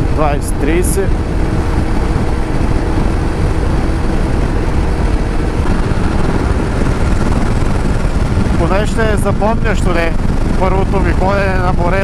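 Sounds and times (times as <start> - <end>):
motorcycle engine drone: 0.0 - 12.0
wind noise on microphone: 0.0 - 12.0.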